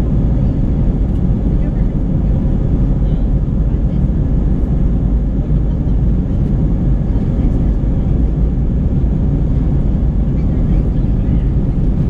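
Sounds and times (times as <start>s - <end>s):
deep runway rumble: 0.0s - 12.0s
jet engine noise: 0.0s - 12.0s.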